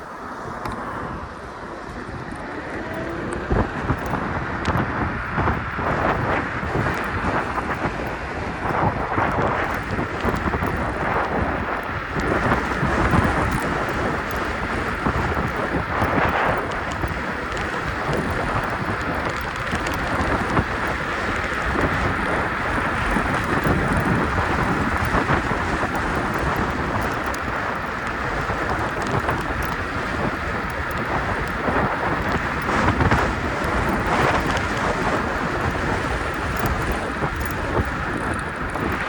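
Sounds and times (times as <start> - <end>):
scooter road rumble: 0.0 - 39.0
wind buffeting microphone: 0.0 - 39.0.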